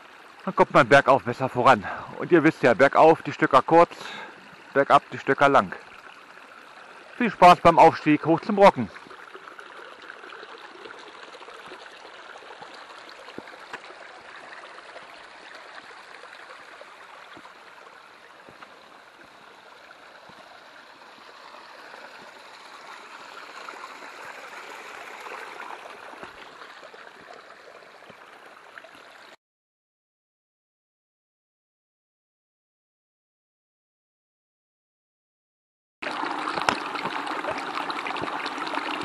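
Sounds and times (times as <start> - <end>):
water trickling over rocks: 0.0 - 29.4, 36.0 - 39.0.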